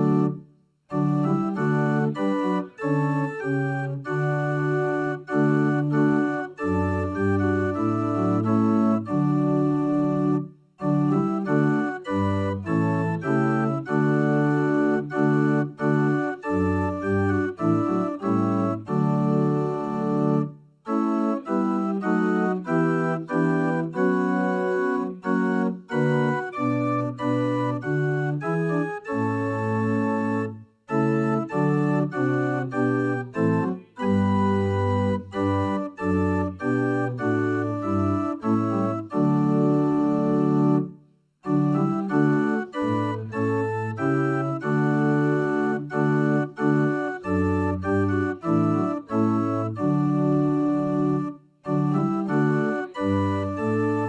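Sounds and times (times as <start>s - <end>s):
organ playing a hymn: 0.0s - 54.0s.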